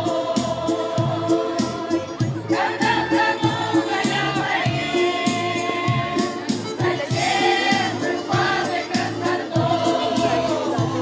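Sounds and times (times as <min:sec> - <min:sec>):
choir singing: 0:00.0 - 0:11.0
instrumental accompaniment with beat: 0:00.0 - 0:11.0.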